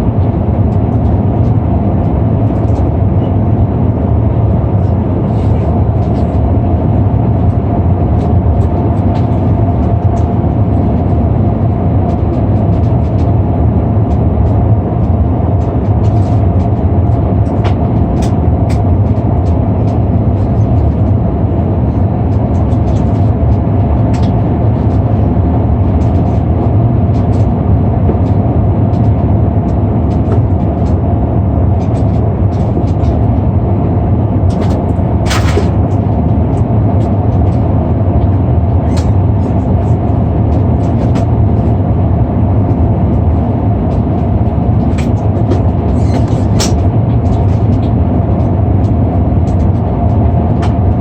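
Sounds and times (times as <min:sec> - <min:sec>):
airflow and engine rumble: 0:00.0 - 0:51.0
steady hum: 0:00.0 - 0:51.0.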